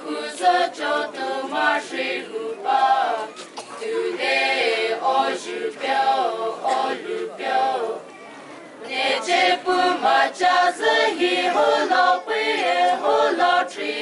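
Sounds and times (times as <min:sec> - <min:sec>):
group singing folk chant: 0:00.0 - 0:08.0, 0:08.8 - 0:14.0.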